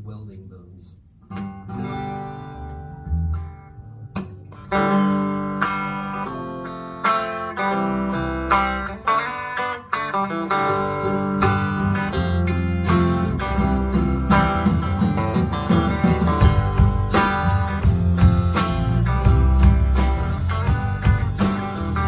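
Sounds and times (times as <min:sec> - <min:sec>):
acoustic guitar picking and strumming: 0:01.0 - 0:22.0.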